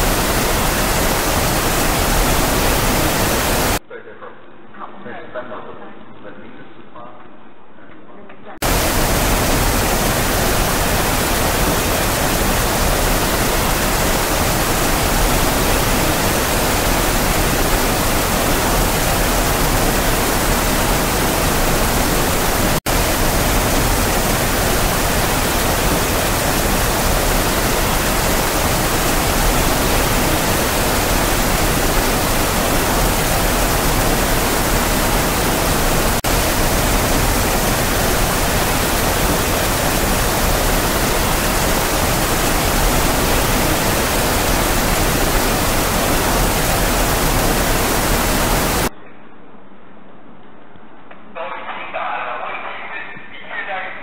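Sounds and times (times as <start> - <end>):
gushing water: 0.0 - 3.8, 8.6 - 48.9.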